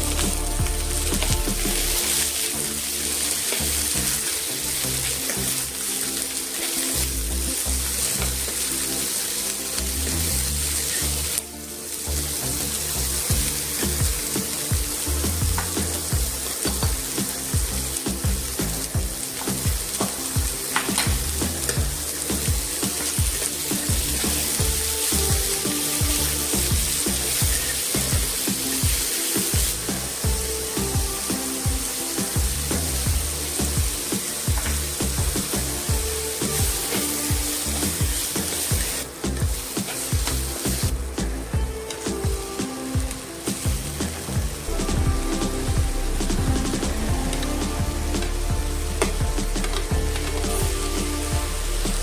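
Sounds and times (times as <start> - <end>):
background music: 0.0 - 52.0
spatula stirring in pan: 0.0 - 52.0
vegetables sizzling in oil: 0.0 - 52.0.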